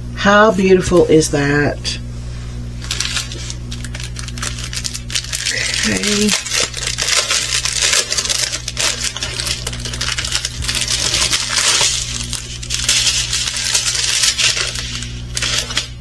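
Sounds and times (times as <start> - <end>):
plastic beads rattling in bags: 2.8 - 16.0.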